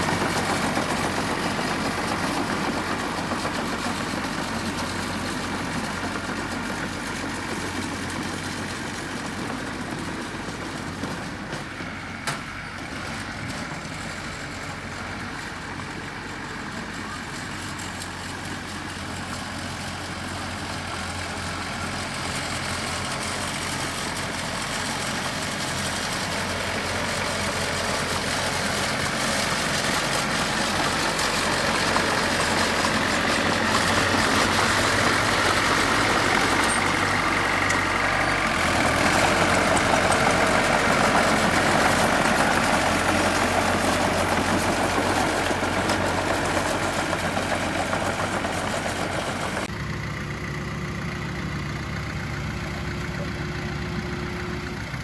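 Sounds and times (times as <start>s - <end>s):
diesel engine of heavy machinery: 0.0s - 55.0s.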